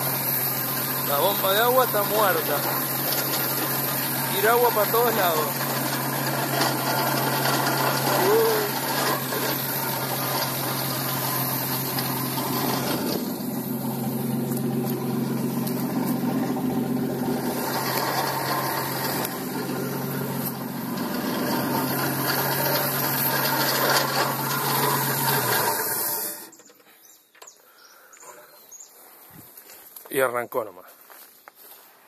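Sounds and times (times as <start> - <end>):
steady hiss: 0.0 - 26.4
car engine idling: 0.0 - 26.5.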